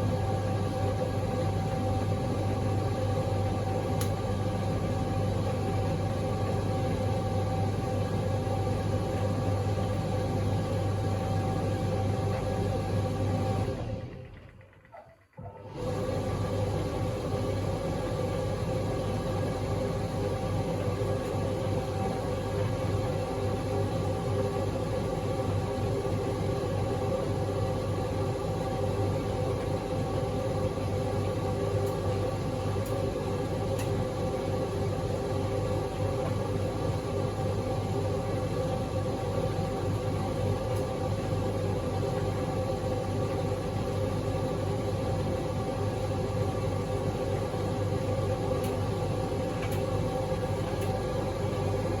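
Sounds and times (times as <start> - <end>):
tumble dryer humming: 0.0 - 52.0.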